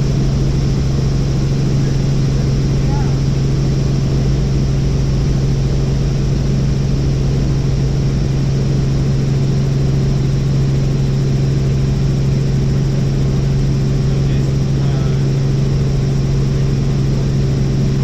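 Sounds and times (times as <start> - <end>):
helicopter rotor and engine drone: 0.0 - 18.0.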